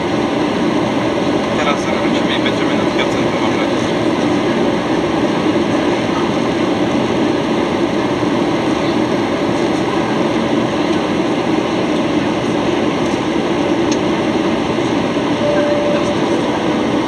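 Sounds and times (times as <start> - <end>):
airplane cabin jet engine rush: 0.0 - 17.0.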